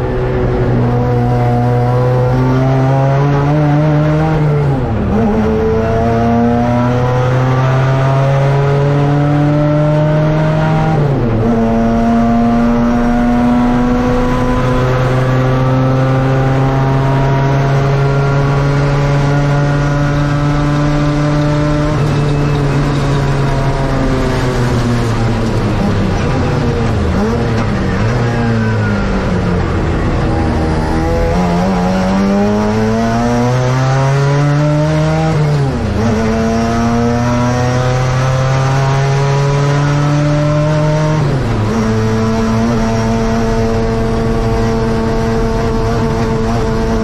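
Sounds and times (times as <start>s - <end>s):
race car engine accelerating: 0.0s - 47.0s.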